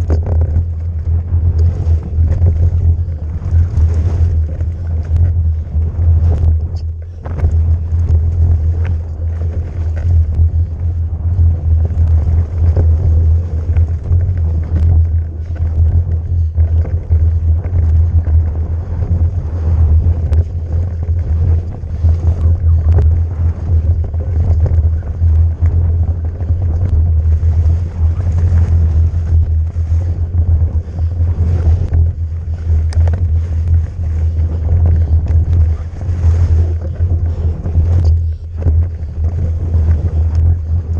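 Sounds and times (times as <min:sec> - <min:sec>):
bike rattling clicks and knocks: 0:00.0 - 0:40.9
wind buffeting microphone: 0:00.0 - 0:40.9.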